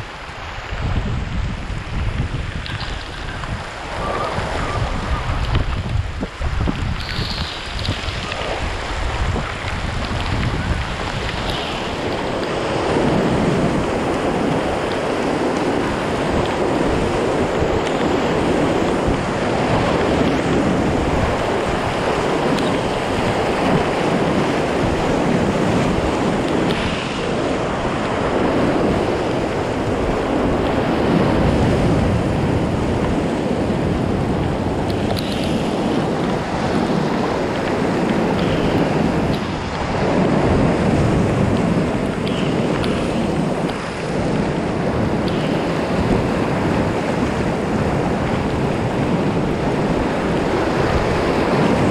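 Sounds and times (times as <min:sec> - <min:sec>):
rapids rushing and splashing: 0:00.0 - 0:51.9.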